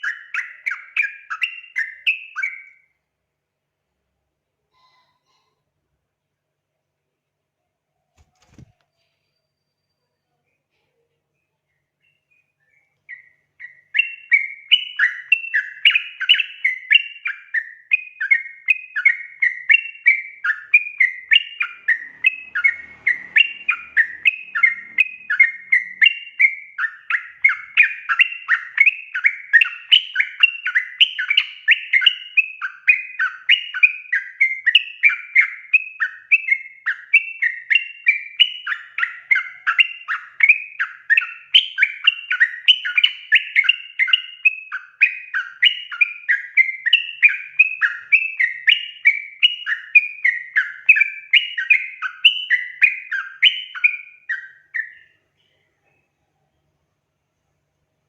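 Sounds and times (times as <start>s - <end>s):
bird chattering song: 0.0s - 2.9s, 8.5s - 56.6s.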